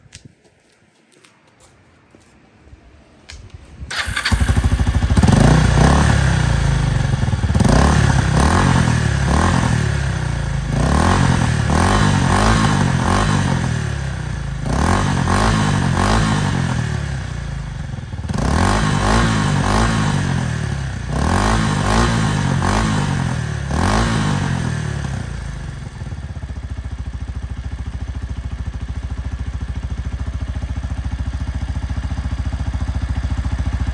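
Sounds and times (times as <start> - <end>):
motorcycle engine starting and revving: 3.9 - 33.9.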